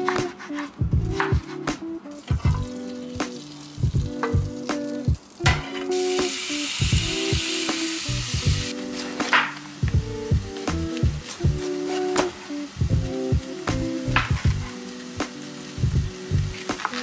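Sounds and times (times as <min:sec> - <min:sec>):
background music with steady beat: 0:00.0 - 0:17.0
chicken sizzling in hot oil: 0:00.5 - 0:17.0.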